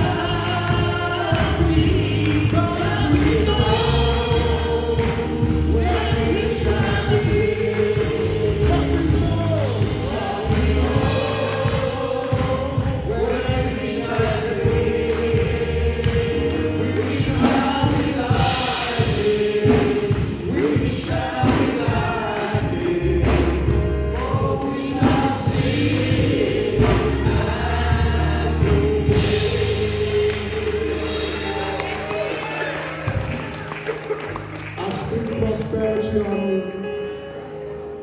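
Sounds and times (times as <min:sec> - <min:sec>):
bass line: 0:00.0 - 0:18.8, 0:23.0 - 0:34.9
choir singing: 0:00.0 - 0:34.2
drum beat: 0:00.0 - 0:34.5.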